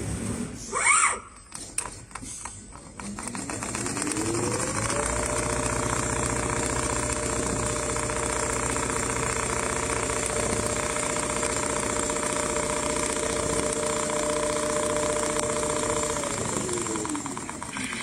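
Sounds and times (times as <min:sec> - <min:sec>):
sewing machine running: 0:01.9 - 0:18.0.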